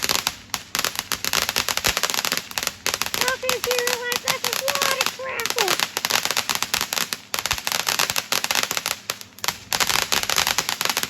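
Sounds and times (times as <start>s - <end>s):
firework crackling: 0.0s - 11.0s.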